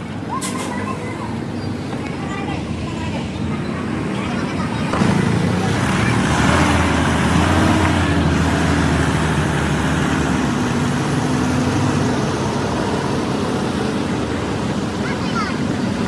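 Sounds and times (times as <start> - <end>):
large vehicle engine running: 2.6 - 16.0.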